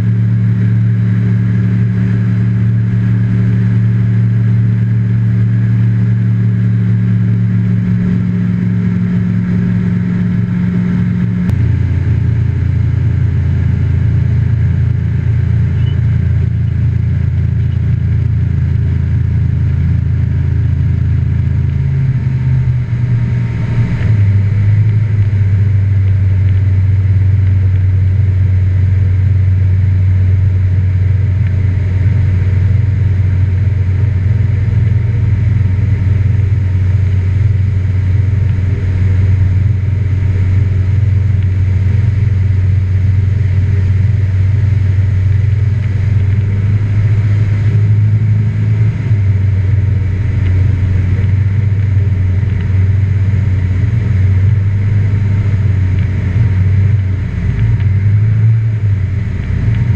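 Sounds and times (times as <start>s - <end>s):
light aircraft engine and propeller droning: 0.0s - 59.9s.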